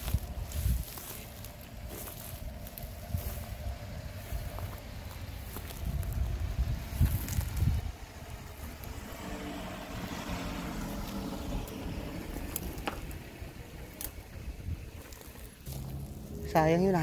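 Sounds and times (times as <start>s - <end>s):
faint engine hum: 0.0s - 17.0s
wind rumble on microphone: 0.0s - 17.0s.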